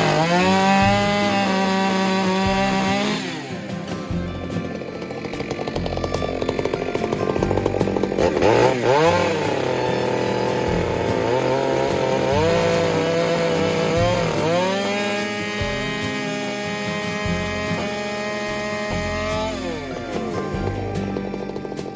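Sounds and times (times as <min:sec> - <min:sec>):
chainsaw cutting log: 0:00.0 - 0:21.9.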